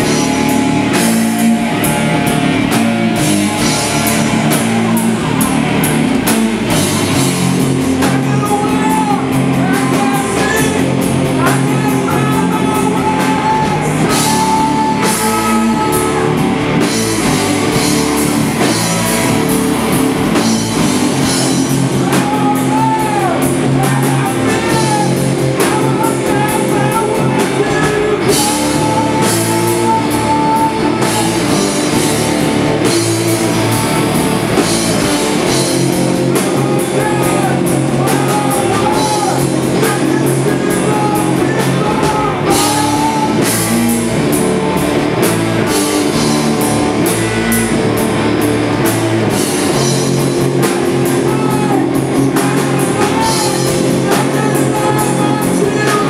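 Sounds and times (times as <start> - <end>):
man singing: 0.0 - 17.8, 20.4 - 44.3, 49.5 - 56.0
drum kit: 0.0 - 56.0
electric guitars: 0.0 - 56.0.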